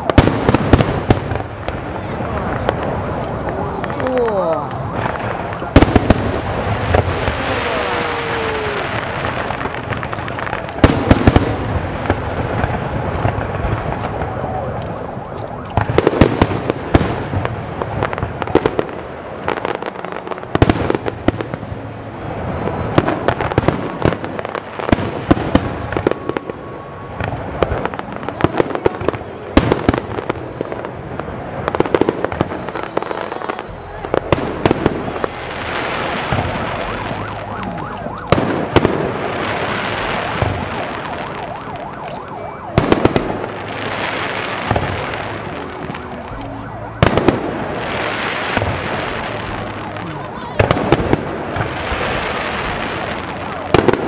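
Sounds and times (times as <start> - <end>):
fireworks bursting with sharp bangs: 0.0 - 54.0
fireworks crackling: 0.0 - 54.0.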